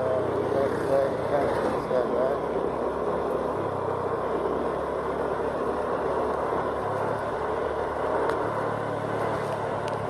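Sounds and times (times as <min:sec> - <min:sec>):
low engine hum: 0:00.0 - 0:10.0
road and wind noise: 0:00.0 - 0:10.0.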